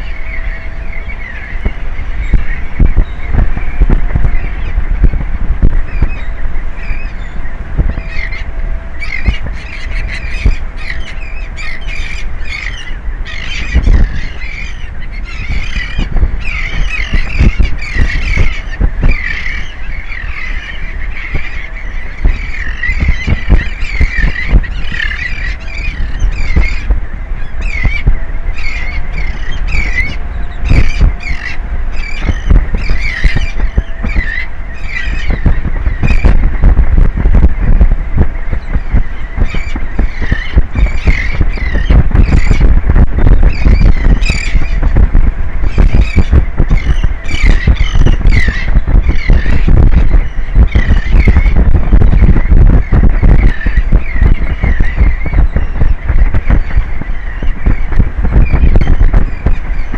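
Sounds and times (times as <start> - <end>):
seabirds calling: 0.0 - 59.9
wind rumbling on microphone: 0.0 - 59.9.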